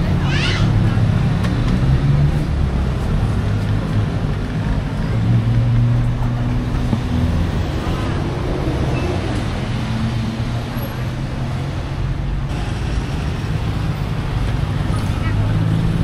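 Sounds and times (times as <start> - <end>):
passers-by voices: 0.0 - 16.0
traffic engines passing: 0.0 - 16.0.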